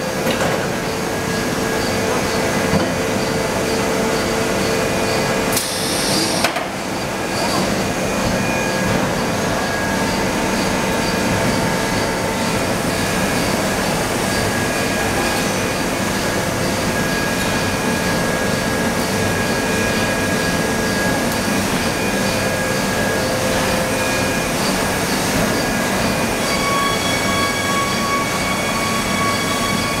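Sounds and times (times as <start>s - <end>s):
industrial machine noise: 0.0s - 30.0s.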